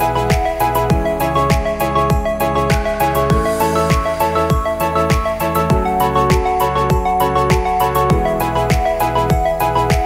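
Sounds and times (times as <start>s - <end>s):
deep kick drum: 0.0s - 10.0s.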